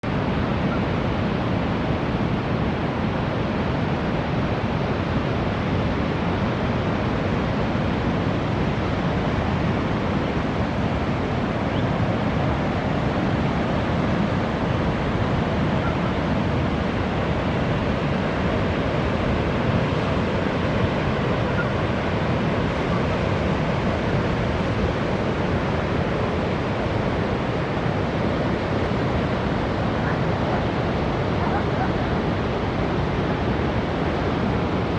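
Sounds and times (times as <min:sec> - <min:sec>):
ocean waves washing on beach: 0:00.0 - 0:34.9.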